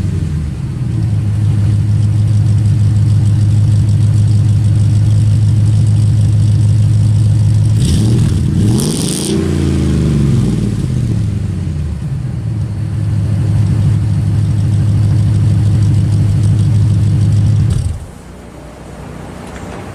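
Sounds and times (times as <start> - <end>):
car engine idling and revving: 0.0 - 19.9.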